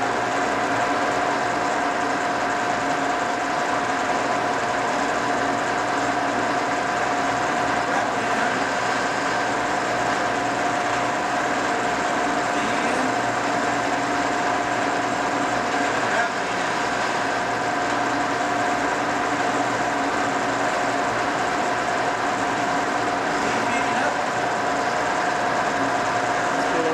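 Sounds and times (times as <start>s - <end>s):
milling machine whine: 0.0s - 26.9s.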